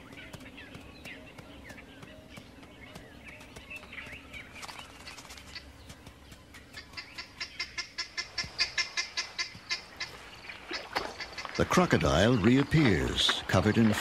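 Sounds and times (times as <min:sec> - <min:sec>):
birds chirping: 0:00.0 - 0:14.0
rapid repeated sharp bird notes: 0:00.0 - 0:14.0.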